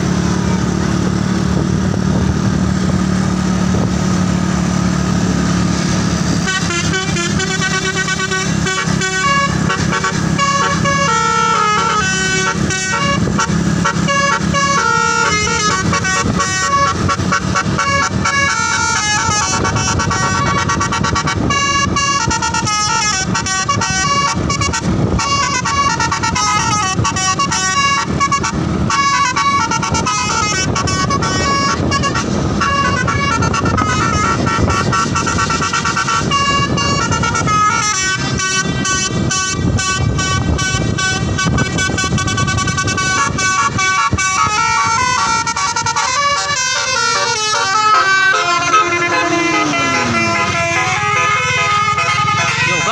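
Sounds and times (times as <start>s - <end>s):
bus engine: 0.0s - 52.9s
musical bus horn melody: 0.0s - 52.9s.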